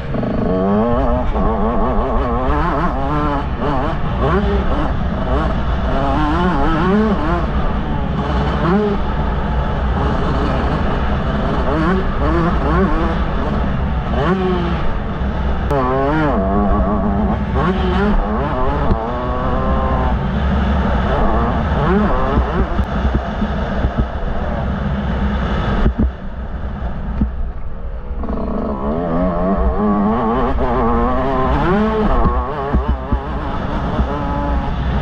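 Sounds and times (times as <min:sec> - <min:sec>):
motocross engine revving: 0:00.0 - 0:26.2, 0:28.2 - 0:35.0.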